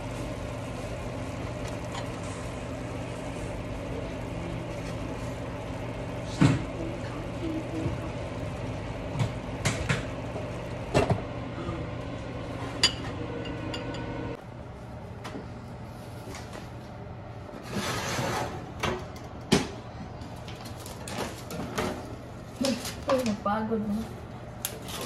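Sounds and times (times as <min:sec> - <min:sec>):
fan hum: 0:00.0 - 0:25.0.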